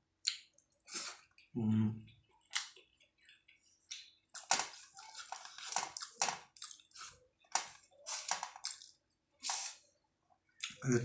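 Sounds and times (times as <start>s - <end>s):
wet squishing of food by hand: 0.0s - 10.8s.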